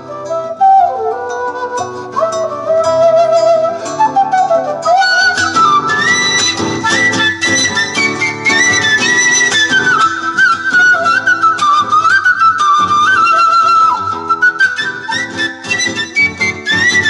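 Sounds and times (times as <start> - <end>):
flute melody: 0.0 - 17.0
strummed acoustic guitar: 0.0 - 17.0.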